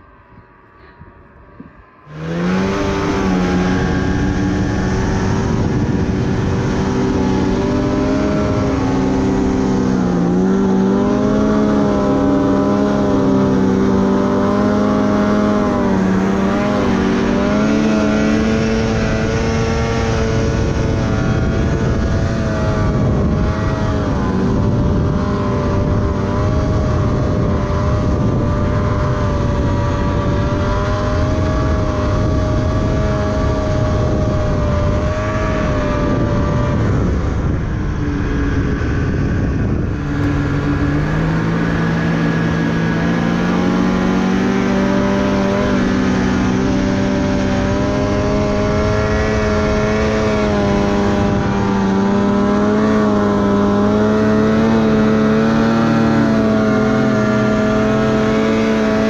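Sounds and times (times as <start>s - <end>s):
snowmobile engine at speed: 0.0s - 59.0s
steady rushing noise: 0.0s - 59.0s.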